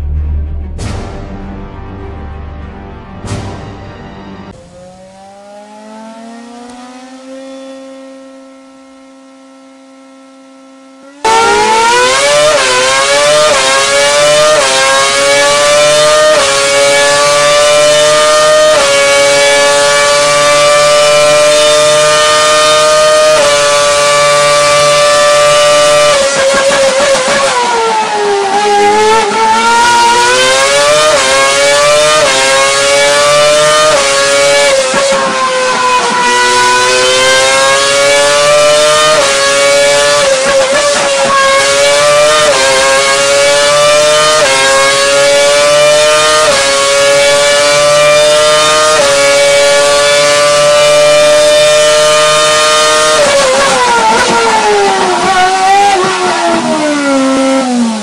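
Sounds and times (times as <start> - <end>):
racing engine revving: 0.0 - 58.0.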